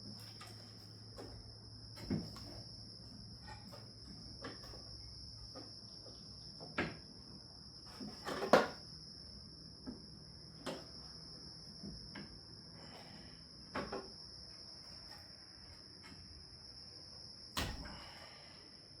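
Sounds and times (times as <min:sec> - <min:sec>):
cricket trill: 0:00.0 - 0:19.0.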